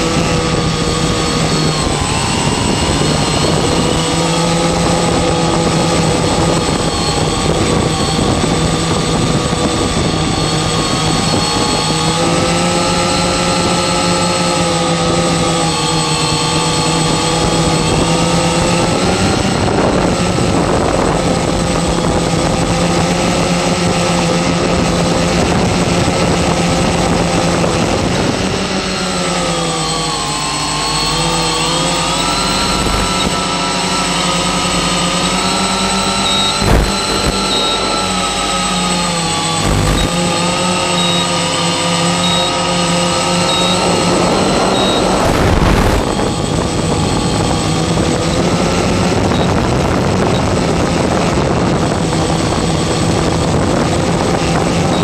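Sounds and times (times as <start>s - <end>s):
drone propellers whirring: 0.0s - 55.0s.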